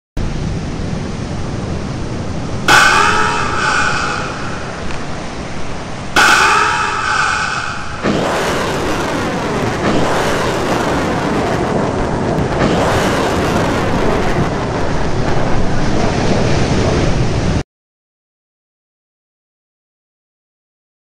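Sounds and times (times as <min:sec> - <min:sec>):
loud rushing rumble: 0:00.2 - 0:17.6.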